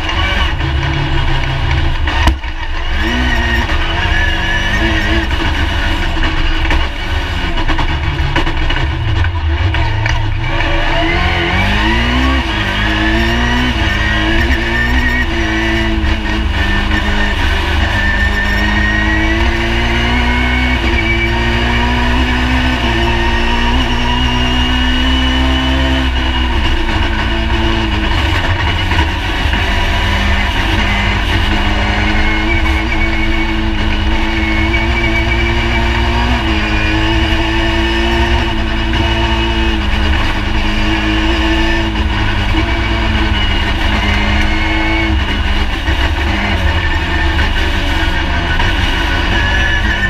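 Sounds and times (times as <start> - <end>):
rally car engine running hard: 0.0 - 50.0.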